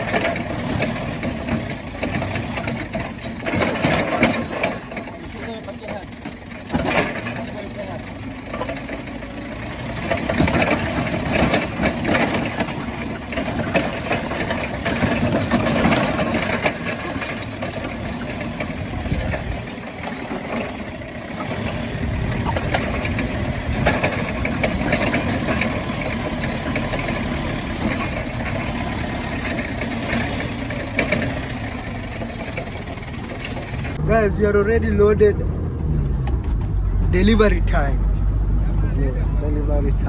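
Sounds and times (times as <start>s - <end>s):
truck engine running: 0.0s - 40.0s.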